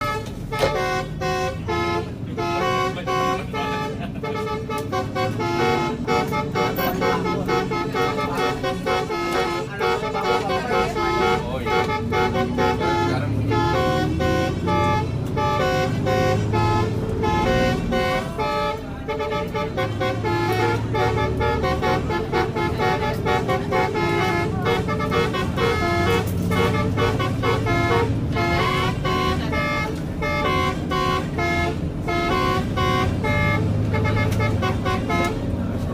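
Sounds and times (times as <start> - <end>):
musical air horn playing tune: 0.0 - 35.4.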